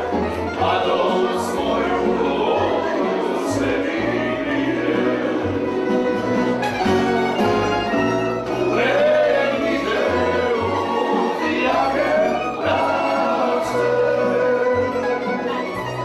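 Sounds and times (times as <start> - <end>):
person singing: 0.0 - 6.0, 8.5 - 16.0
plucked string band playing: 0.0 - 16.0.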